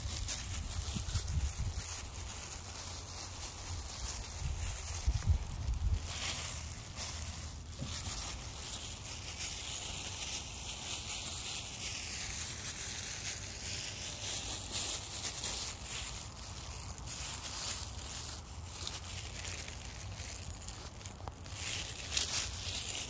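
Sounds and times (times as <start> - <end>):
footsteps rustling through grass: 0.0 - 23.0.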